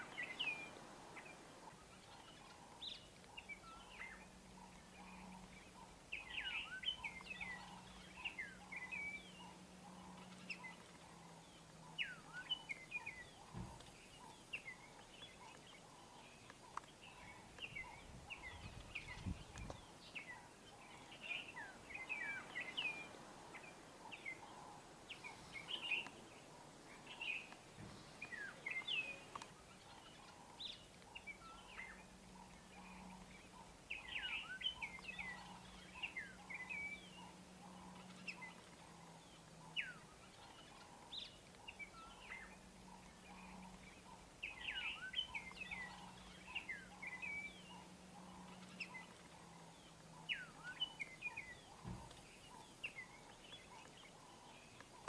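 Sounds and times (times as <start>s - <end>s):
faint low hum: 0.0s - 55.0s
small birds chirping: 0.0s - 55.0s.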